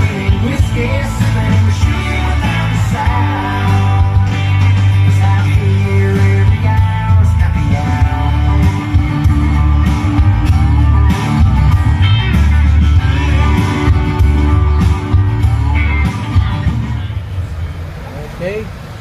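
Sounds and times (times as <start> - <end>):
rock song with singing and guitar: 0.0 - 17.5.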